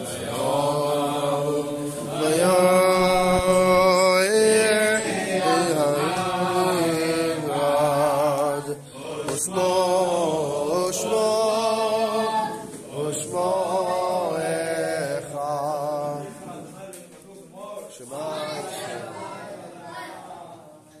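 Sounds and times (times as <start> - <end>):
men chanting a prayer: 0.0 - 21.0.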